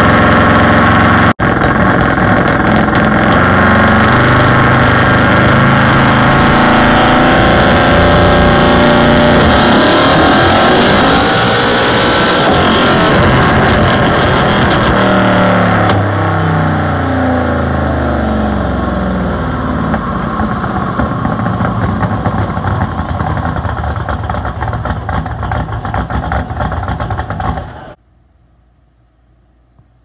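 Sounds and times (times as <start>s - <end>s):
car engine winding down to idle: 0.0s - 28.0s.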